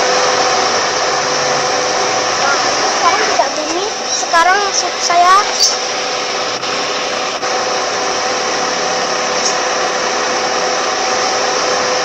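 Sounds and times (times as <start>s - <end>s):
air conditioning blower fan: 0.0s - 12.0s.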